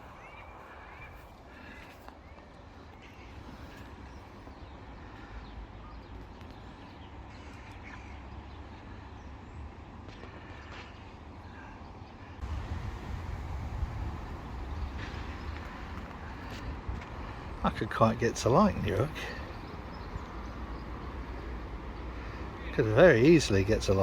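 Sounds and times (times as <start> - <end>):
bird calls and chirps: 0.0 - 9.5, 14.2 - 24.0
low rumble of distant traffic: 0.0 - 24.0.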